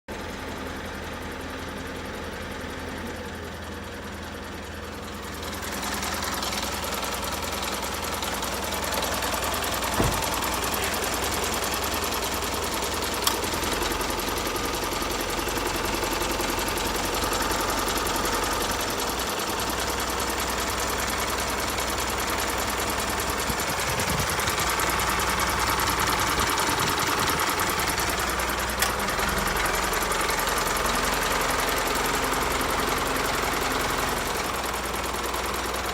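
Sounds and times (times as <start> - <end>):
truck engine running: 0.1 - 35.9.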